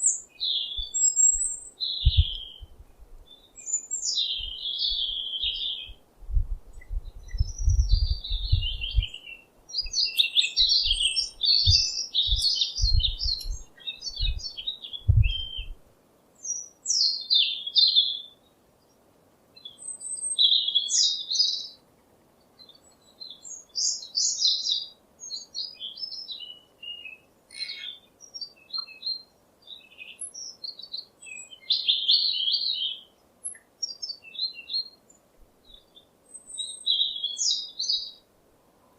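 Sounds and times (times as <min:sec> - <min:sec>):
songbird chirping and singing: 0:00.0 - 0:06.0, 0:06.7 - 0:15.8, 0:16.4 - 0:38.9.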